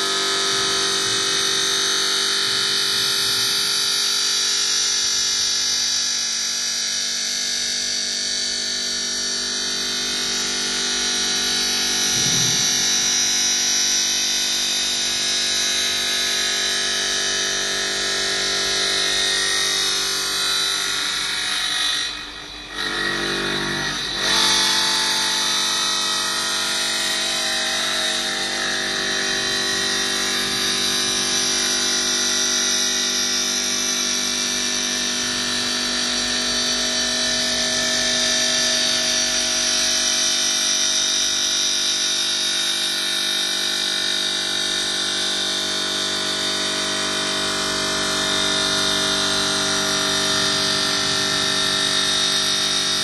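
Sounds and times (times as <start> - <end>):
stone saw whine: 0.0 - 53.0.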